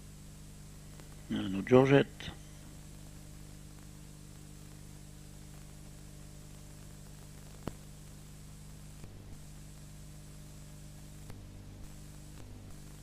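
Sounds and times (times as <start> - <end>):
mains hum and hiss: 0.0 - 13.0.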